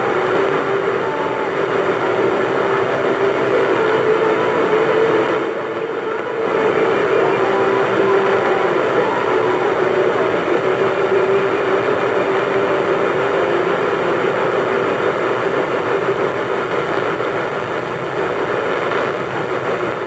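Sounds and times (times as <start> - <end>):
faint steady tone: 0.0 - 20.0
radio static hiss: 0.0 - 20.0.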